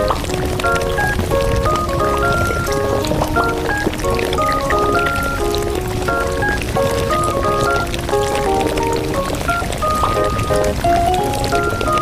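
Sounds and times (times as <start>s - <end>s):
melody of short held notes: 0.0s - 12.0s.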